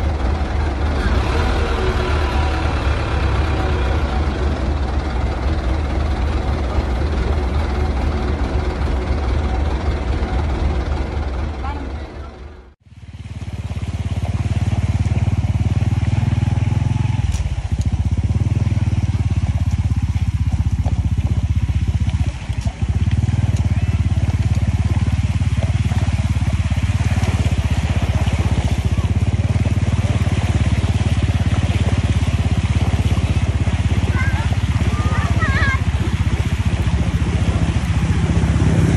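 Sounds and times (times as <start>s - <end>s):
engine running with low throb: 0.0s - 38.9s.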